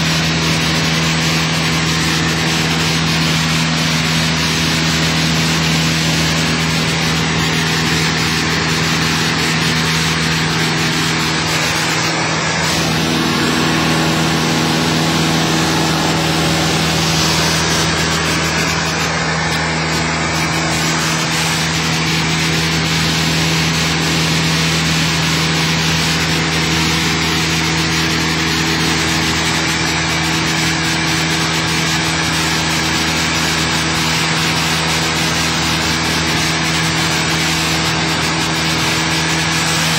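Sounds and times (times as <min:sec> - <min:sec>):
propeller plane engine droning: 0:00.0 - 0:39.9
rushing airflow: 0:00.0 - 0:39.9.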